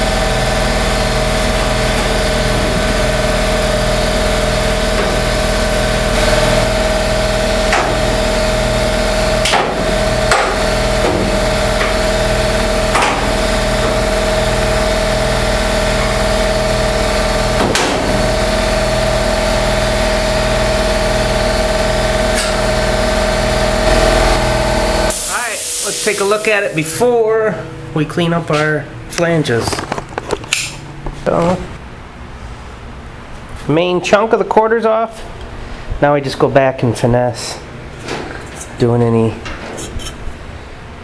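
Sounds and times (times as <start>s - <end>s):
steady machine drone: 0.0s - 33.2s.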